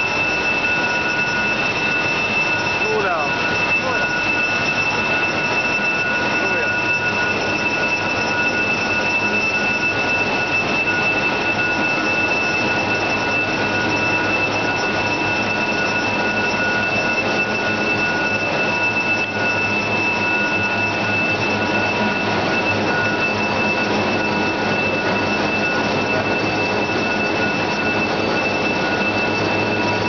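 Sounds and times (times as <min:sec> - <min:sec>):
high-pitched machine whines: 0:00.0 - 0:30.0.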